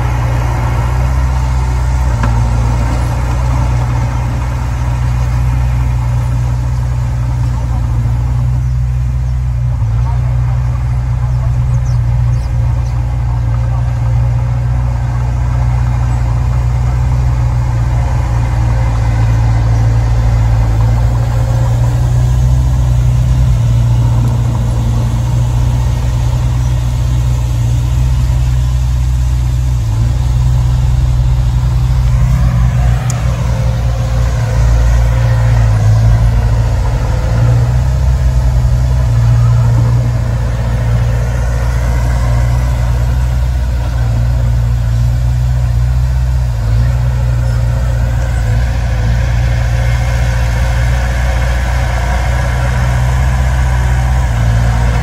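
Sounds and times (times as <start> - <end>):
diesel engine rumbling: 0.0 - 55.0.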